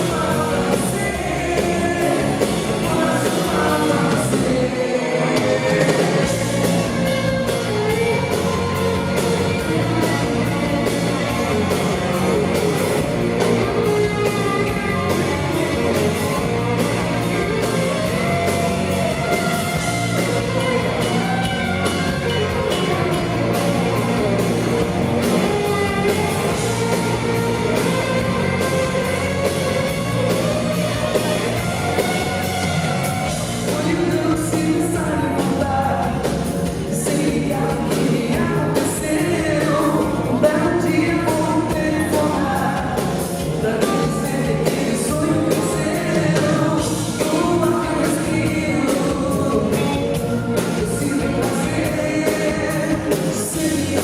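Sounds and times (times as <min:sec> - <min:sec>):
lead voice singing: 0:00.0 - 0:54.0
live rock band: 0:00.0 - 0:54.0.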